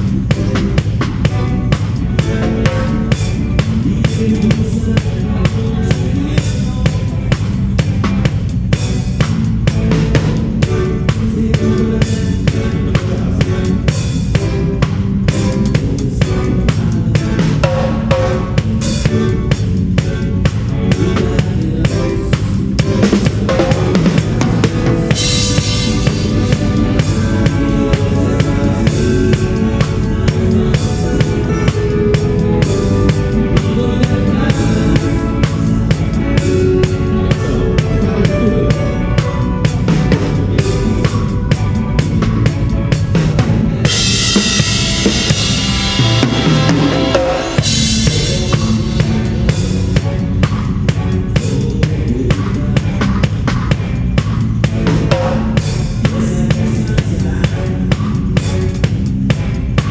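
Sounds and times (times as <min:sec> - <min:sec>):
band playing a song: 0:00.0 - 0:59.9
rock drum kit beat: 0:00.0 - 0:59.9.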